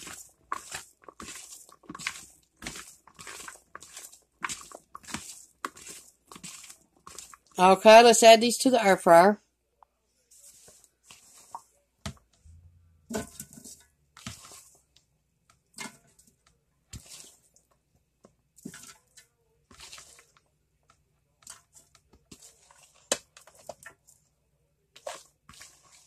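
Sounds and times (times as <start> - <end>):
food handling noises: 0.0 - 7.6, 10.1 - 26.0.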